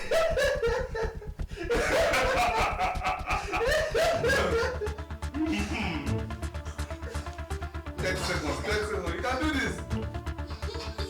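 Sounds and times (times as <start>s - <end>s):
people laughing: 0.0s - 7.4s, 8.0s - 11.0s.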